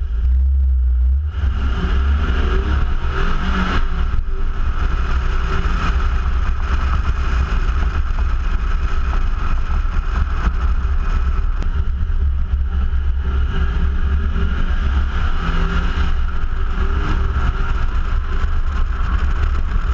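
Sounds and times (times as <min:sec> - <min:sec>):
car engine and exhaust: 0:00.0 - 0:19.9
road and tyre noise: 0:00.0 - 0:19.9
wind rumble on microphone: 0:00.0 - 0:19.9.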